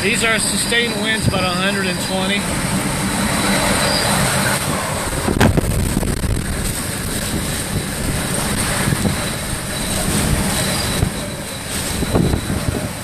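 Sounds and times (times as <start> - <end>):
strong wind gusting: 0.0 - 13.0.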